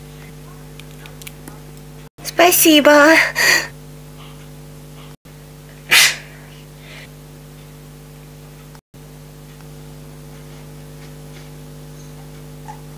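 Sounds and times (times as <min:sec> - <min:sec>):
electrical hum and hiss: 0:00.0 - 0:12.9.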